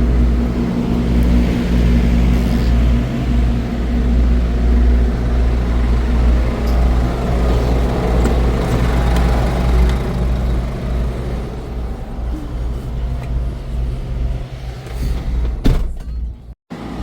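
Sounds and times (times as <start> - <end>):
diesel truck engine droning: 0.0 - 15.6.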